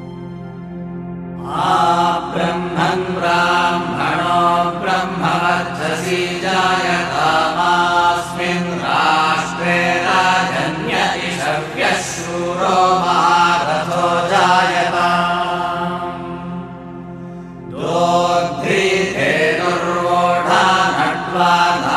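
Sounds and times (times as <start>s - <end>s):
steady drone: 0.0s - 21.9s
person chanting: 1.4s - 16.8s, 17.7s - 21.9s.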